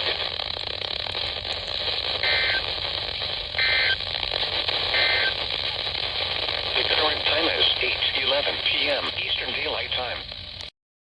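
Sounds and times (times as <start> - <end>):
radio data tone bursts: 0.0 - 10.6
steady radio hiss: 0.0 - 10.7.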